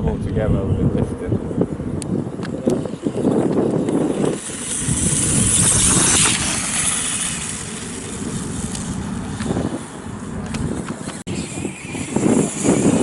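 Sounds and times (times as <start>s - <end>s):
rc dirt bike motor and tyres: 0.0s - 13.0s.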